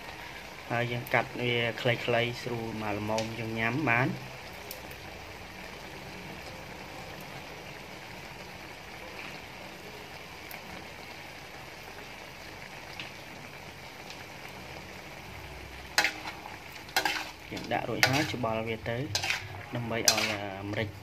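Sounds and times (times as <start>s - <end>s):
liquid bubbling and hissing in wok: 0.0s - 21.0s.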